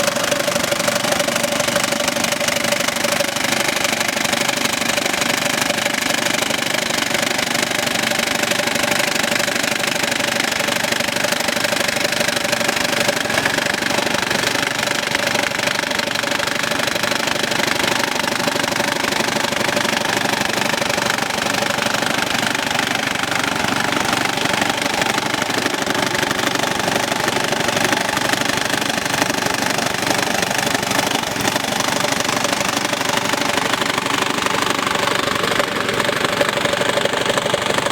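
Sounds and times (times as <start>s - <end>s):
small engine running: 0.0s - 37.9s.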